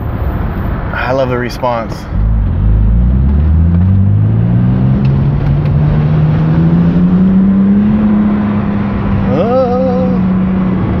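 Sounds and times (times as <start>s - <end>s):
car engine revving from inside: 2.2s - 11.0s.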